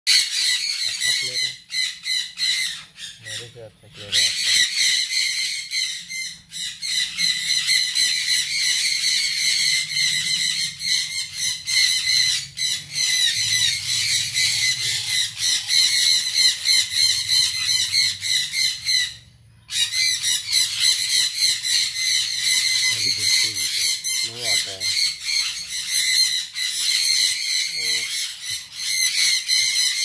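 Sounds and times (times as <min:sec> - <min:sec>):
chicks raspy begging calls: 0:00.2 - 0:30.0.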